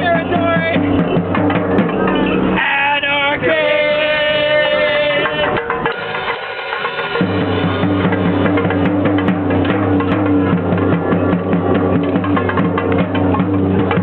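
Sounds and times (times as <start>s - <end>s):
loud live music: 0.0s - 14.0s.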